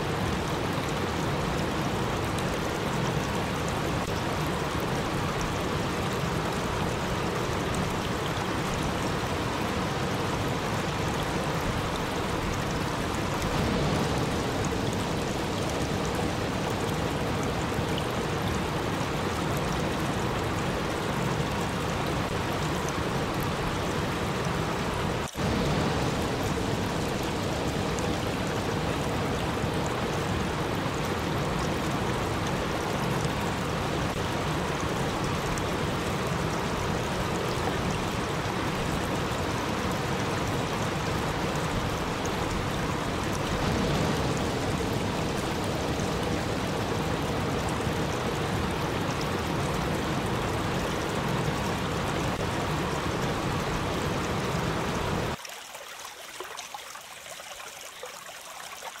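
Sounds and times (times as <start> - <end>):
waterfall rushing over rocks: 0.0 - 57.7.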